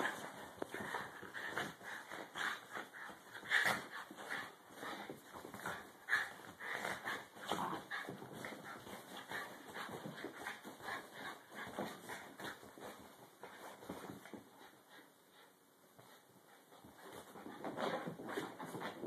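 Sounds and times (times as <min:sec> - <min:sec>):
dogs scuffling on carpet: 0:00.0 - 0:19.0.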